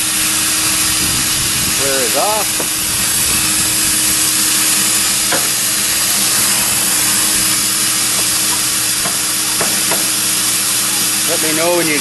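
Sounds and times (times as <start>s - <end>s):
vacuum cleaner motor running: 0.0s - 12.0s.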